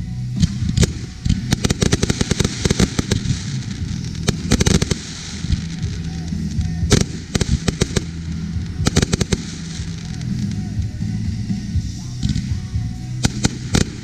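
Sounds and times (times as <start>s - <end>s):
firework shells bursting: 0.4s - 11.0s, 13.2s - 14.0s.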